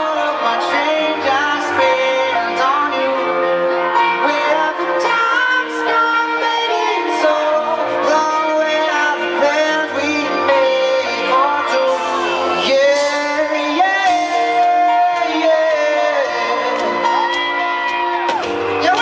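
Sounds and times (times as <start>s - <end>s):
person singing: 0.0s - 19.0s
pop-rock band playing: 0.0s - 19.0s.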